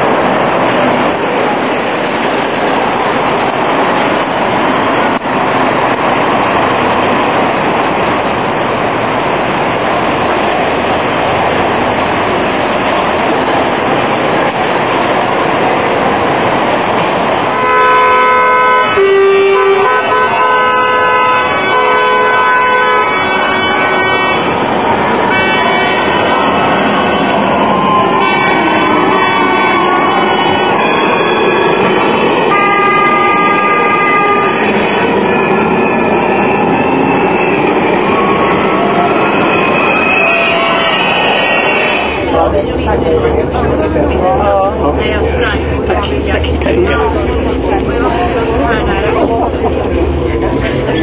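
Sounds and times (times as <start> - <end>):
city street traffic: 0.0 - 51.0.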